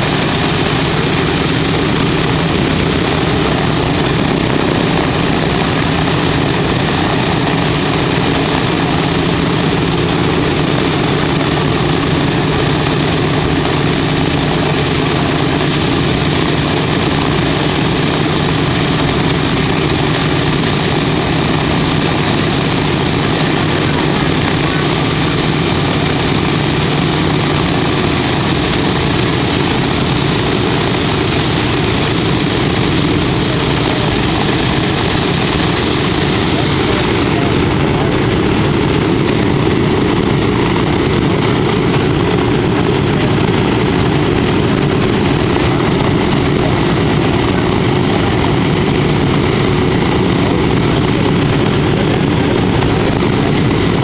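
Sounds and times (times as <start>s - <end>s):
radial aircraft engines droning: 0.0s - 54.0s.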